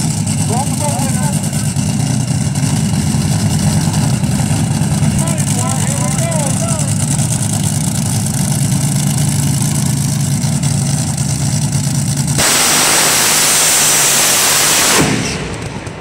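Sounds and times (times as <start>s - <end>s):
drag car engine running: 0.0s - 16.0s
engine full throttle blast: 0.0s - 16.0s.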